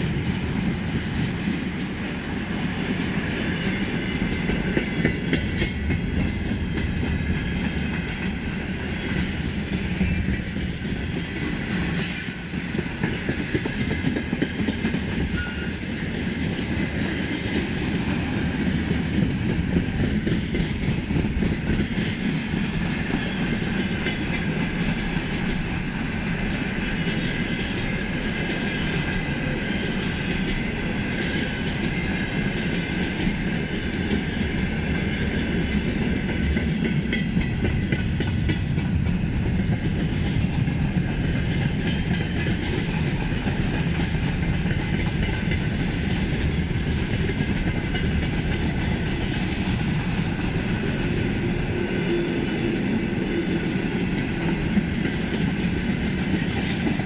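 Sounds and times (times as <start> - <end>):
freight train wagons rolling: 0.0 - 57.0.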